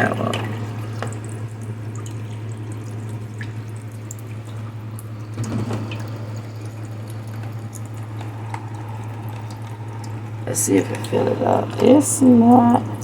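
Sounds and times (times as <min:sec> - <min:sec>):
fountain water trickling and dripping: 0:00.0 - 0:13.0
pump humming: 0:00.0 - 0:13.0.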